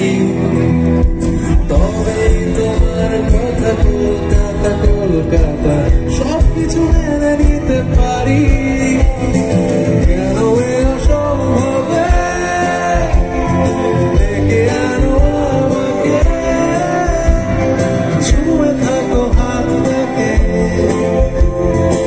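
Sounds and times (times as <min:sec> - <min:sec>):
keyboard: 0:00.0 - 0:22.0
man singing into a microphone: 0:00.0 - 0:22.0
steady drum beat: 0:01.0 - 0:22.0.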